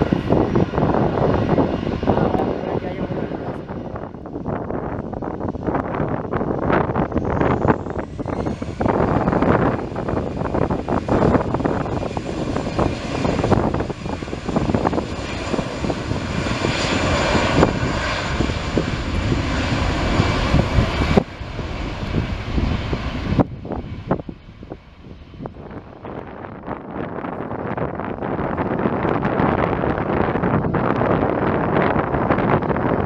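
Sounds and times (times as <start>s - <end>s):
jet engines at takeoff thrust: 0.0s - 33.0s
wind on microphone: 0.0s - 33.0s.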